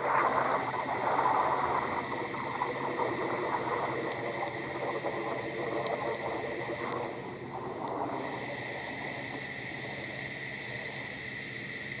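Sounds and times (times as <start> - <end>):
low rumbling noise: 0.0 - 11.1
night insects chorus: 0.0 - 12.0.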